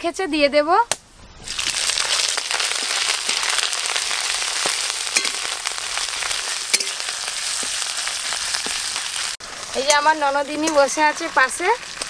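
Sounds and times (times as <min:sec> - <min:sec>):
paste sizzling in hot oil: 0:01.4 - 0:12.0.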